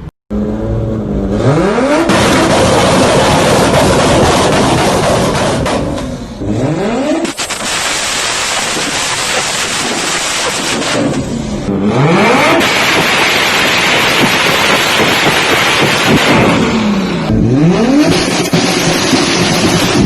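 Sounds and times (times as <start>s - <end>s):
car engine accelerating hard: 0.3s - 7.4s, 10.4s - 20.0s.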